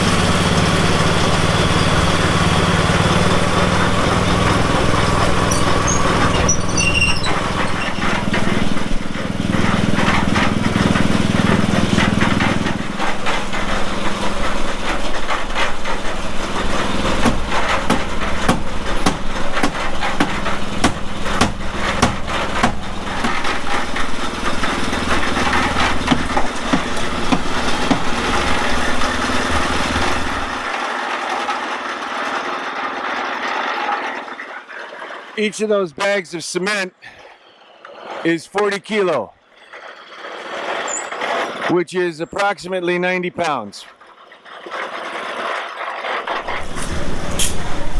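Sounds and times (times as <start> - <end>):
knocks and scrapes of work: 0.0 - 35.4, 37.9 - 41.8, 43.4 - 47.9
small engine running: 0.0 - 35.4, 44.2 - 47.9.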